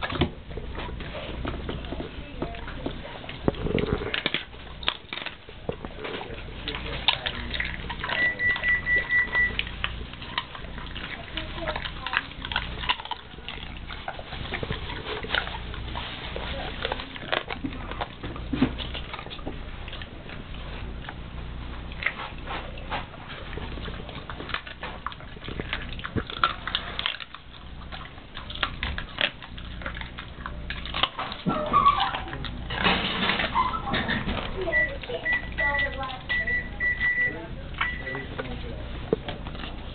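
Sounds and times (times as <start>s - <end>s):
dog chewing wetly: 0.0s - 39.9s.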